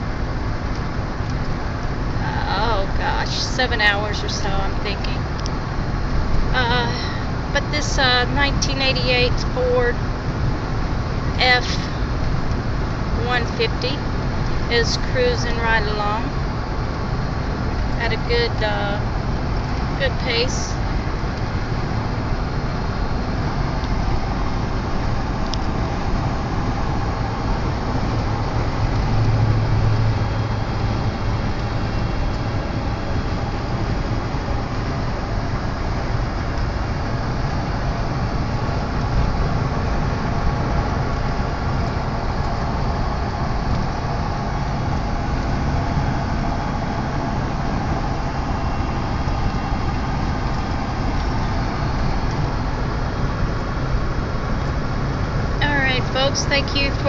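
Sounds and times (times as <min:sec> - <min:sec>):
pickup truck engine cruising: 0:00.0 - 0:57.0
road noise: 0:00.0 - 0:57.0.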